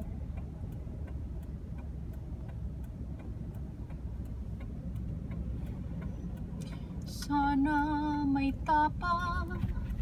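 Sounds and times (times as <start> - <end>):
road and engine rumble: 0.0 - 10.0
turn signal ticking: 0.0 - 10.0.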